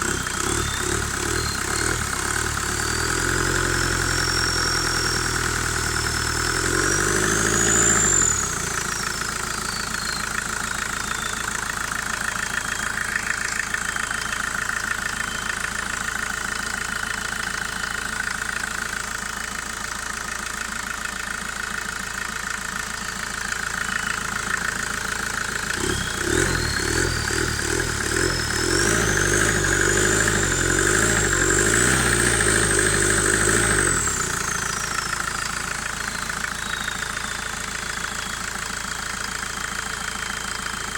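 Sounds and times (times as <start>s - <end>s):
diesel engine idling and revving: 0.0s - 40.9s
turbocharger whistling: 0.0s - 40.9s.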